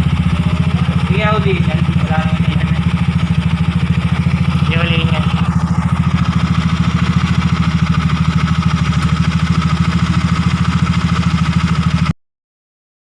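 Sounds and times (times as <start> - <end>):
motorcycle engine idling: 0.0 - 12.1.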